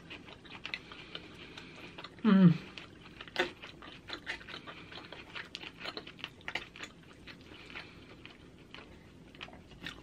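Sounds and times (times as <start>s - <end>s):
person chewing with wet smacks: 0.0s - 10.0s.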